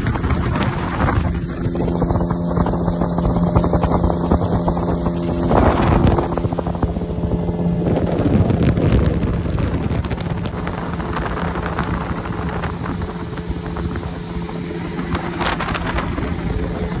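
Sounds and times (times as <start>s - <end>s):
speedboat engine humming: 0.0s - 17.0s
wind buffeting microphone: 0.0s - 17.0s.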